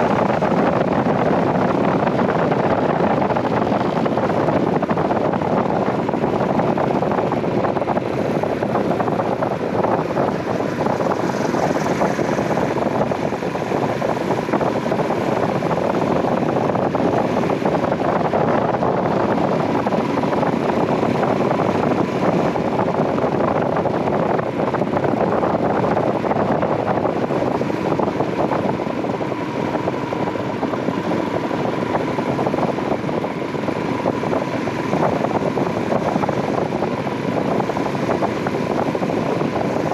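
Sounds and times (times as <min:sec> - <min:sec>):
motorcycle engine cruising: 0:00.0 - 0:39.9
wind rush on microphone: 0:00.0 - 0:39.9.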